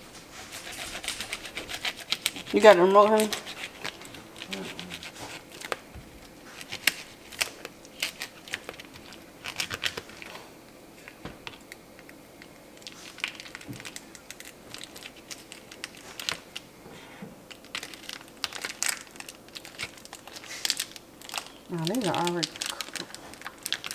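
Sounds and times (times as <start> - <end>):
packaging crinkling: 0.0 - 23.9.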